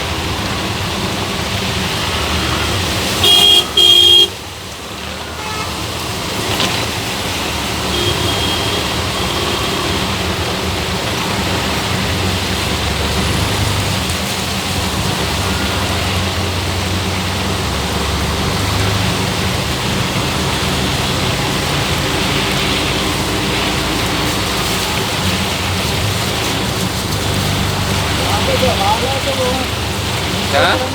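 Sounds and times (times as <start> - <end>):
heavy rain pouring: 0.0 - 30.9
vehicle engine humming: 0.0 - 30.9.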